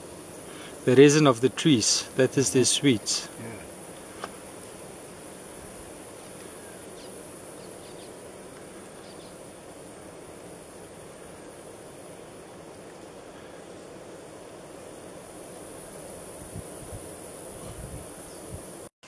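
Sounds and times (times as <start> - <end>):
faint high hiss: 0.0 - 18.9.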